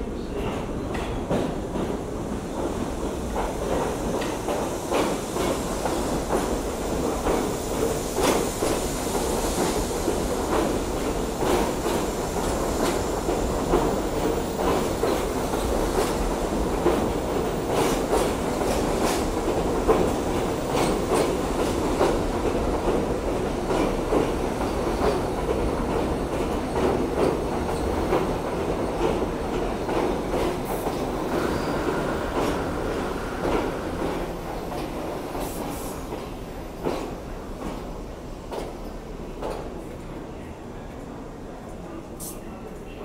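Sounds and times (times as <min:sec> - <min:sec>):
subway train rumbling past: 0:00.0 - 0:43.0.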